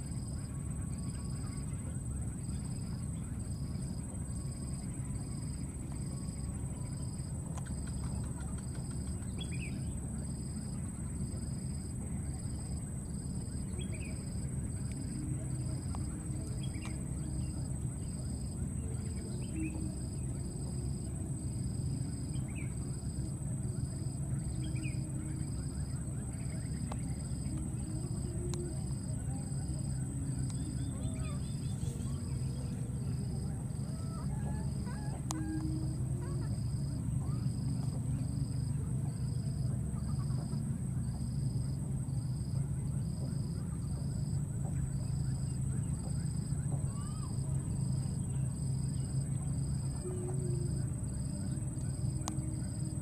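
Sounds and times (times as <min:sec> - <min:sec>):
high-pitched hum: 0:00.0 - 0:53.0
high-pitched insect drone: 0:00.0 - 0:53.0
insect chirping call: 0:00.0 - 0:53.0
low rumble: 0:00.0 - 0:53.0.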